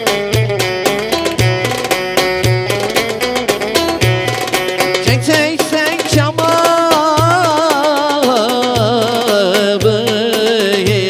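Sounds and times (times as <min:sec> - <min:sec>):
bass drum beat: 0:00.0 - 0:11.0
ornamented folk melody: 0:00.0 - 0:11.0.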